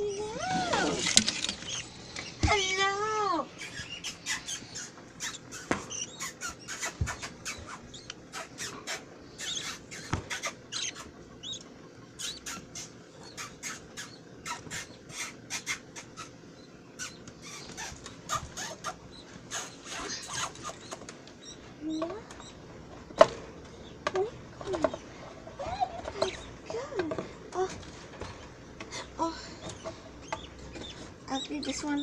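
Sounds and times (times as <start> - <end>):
budgies chirping: 0.0 - 32.0.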